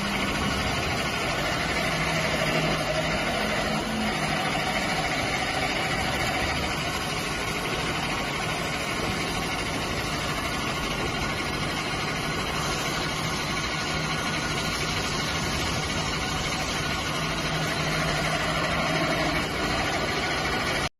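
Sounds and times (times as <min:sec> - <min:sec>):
pipe perforating machine humming: 0:00.0 - 0:20.9.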